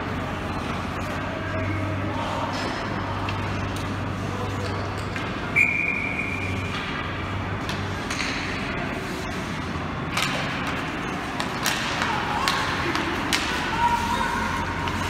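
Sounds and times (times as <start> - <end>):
ice rink hum: 0.0 - 15.0.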